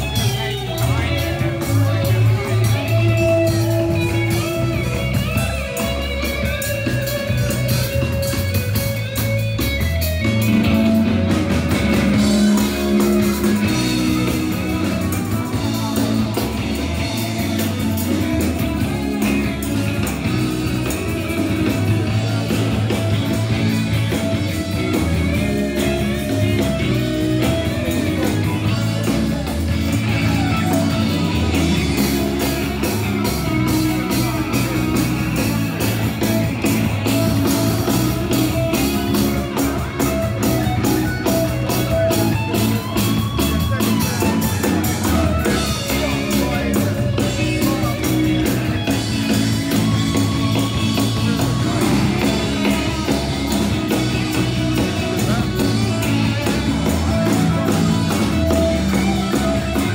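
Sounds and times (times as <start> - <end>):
rock music with guitar and drums: 0.0 - 59.9.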